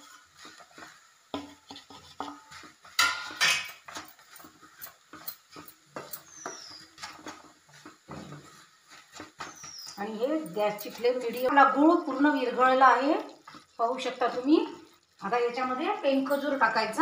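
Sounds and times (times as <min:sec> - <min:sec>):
wooden spatula scraping pan: 0:00.0 - 0:15.3.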